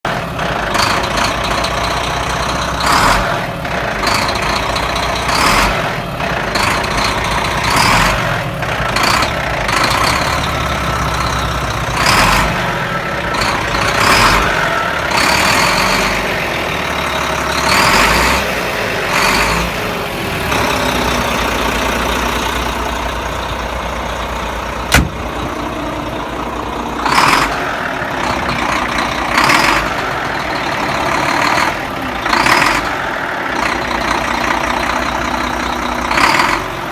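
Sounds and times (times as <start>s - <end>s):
diesel truck engine rattling: 0.0s - 36.9s.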